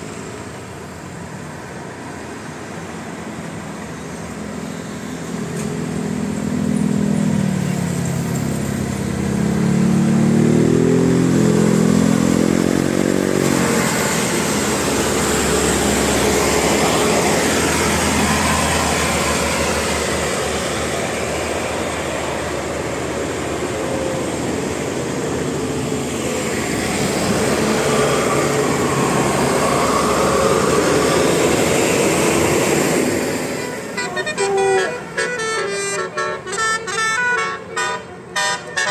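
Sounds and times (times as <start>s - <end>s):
bus engine accelerating: 0.0s - 38.9s
road noise rushing: 0.0s - 38.9s.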